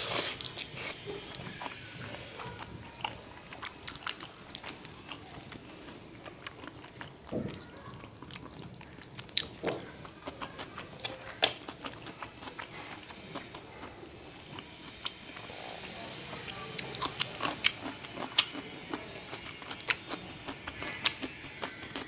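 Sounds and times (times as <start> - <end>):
chewing noodles: 0.0 - 22.0.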